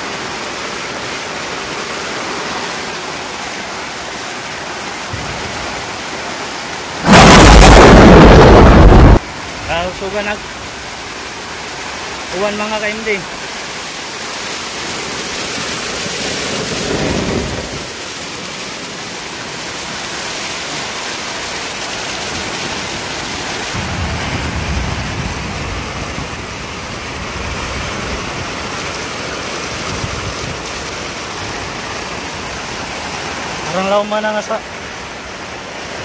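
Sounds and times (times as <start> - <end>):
heavy rain on concrete: 0.0 - 36.0.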